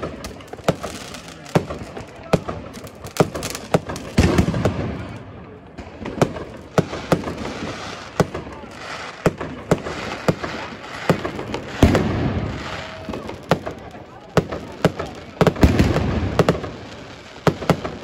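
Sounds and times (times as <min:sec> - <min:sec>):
fireworks bangs: 0:00.0 - 0:18.0
fireworks rumble: 0:00.0 - 0:18.0.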